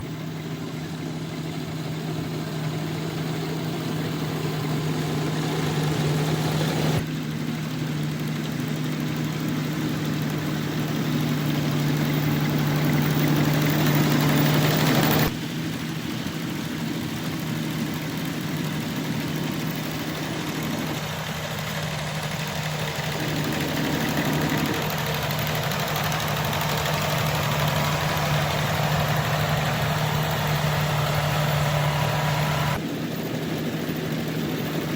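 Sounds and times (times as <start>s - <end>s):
combine harvester engine running: 0.0s - 34.9s.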